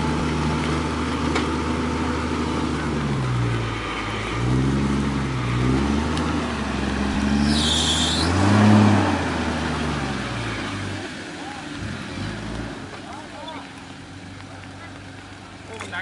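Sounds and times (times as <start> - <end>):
engine revving in surges: 0.0 - 13.5.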